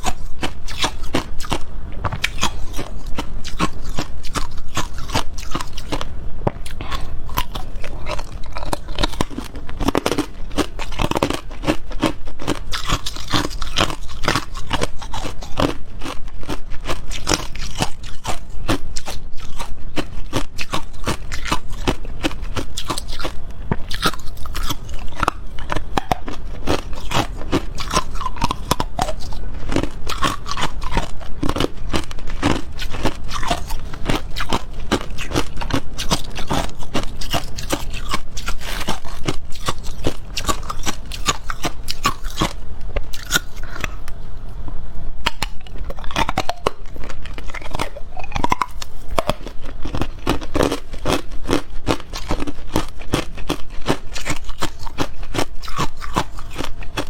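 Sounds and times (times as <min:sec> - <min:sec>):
ice being chewed: 0:00.0 - 0:44.2, 0:45.3 - 0:57.0.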